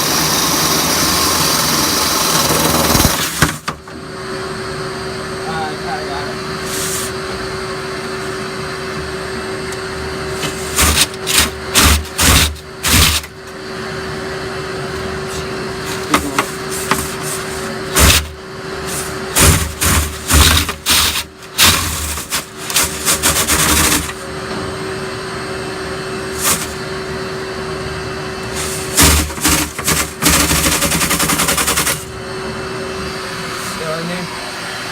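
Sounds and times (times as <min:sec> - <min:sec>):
vacuum humming: 0:00.0 - 0:34.9.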